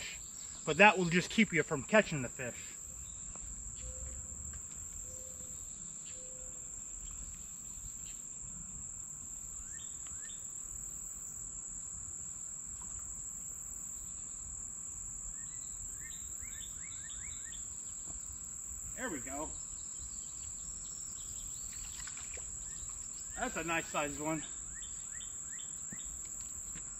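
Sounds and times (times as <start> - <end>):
chorus of insects: 0.0 - 26.9.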